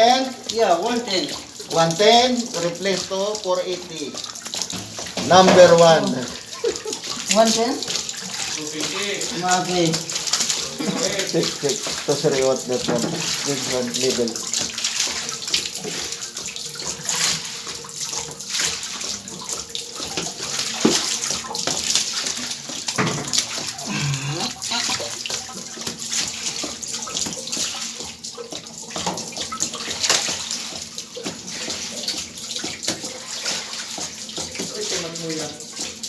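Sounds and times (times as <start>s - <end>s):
water running and splashing: 0.0s - 36.0s.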